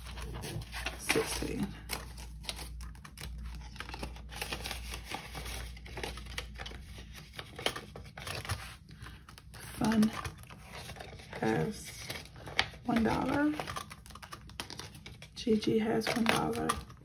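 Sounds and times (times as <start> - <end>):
banknotes rustling and flicking: 0.0 - 17.0.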